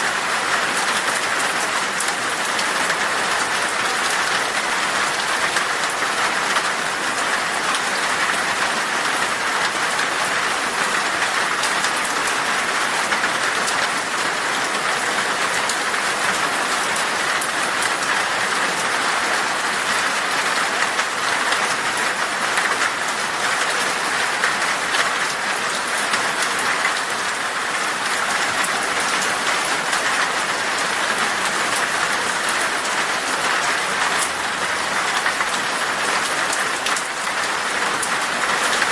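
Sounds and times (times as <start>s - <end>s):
heavy rain on glass: 0.0s - 38.9s
raindrops pattering: 0.1s - 38.9s.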